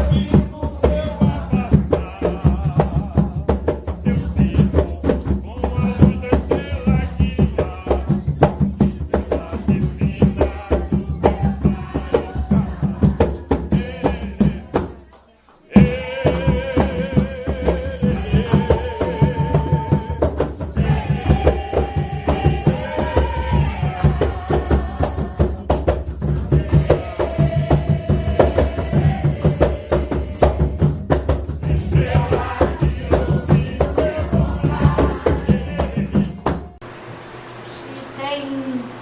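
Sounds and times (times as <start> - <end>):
hand drums: 0.0 - 36.8
rattle shaking a beat: 0.0 - 36.8
voices singing: 0.0 - 36.8.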